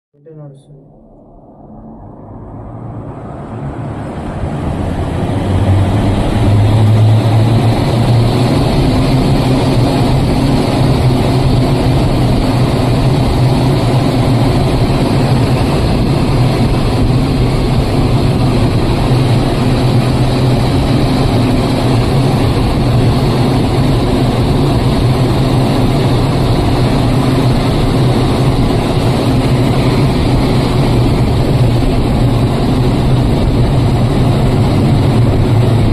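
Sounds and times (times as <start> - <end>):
fan humming with rushing air: 0.6 - 35.9.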